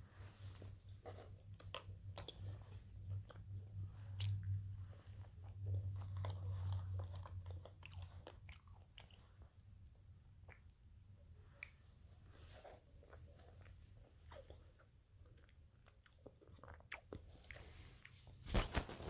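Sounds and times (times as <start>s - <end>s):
person chewing food: 0.1s - 18.4s.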